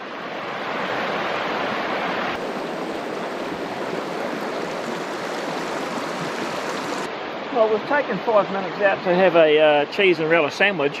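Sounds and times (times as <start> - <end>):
stream water rushing: 0.0 - 10.6.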